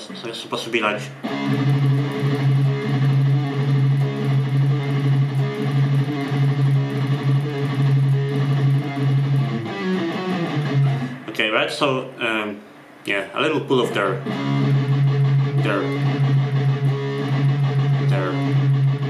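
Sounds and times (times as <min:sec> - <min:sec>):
electric guitar metal riff: 0:00.0 - 0:12.6, 0:13.4 - 0:19.0.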